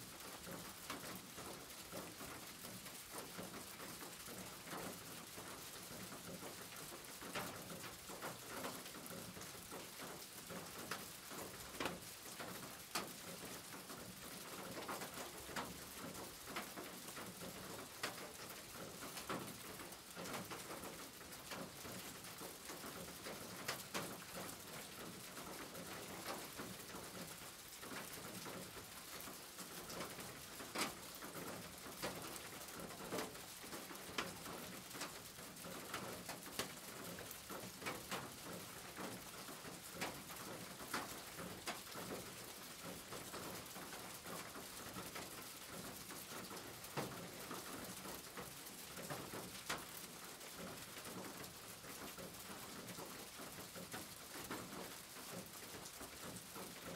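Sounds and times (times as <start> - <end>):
rain on a tin roof: 0.0 - 56.9.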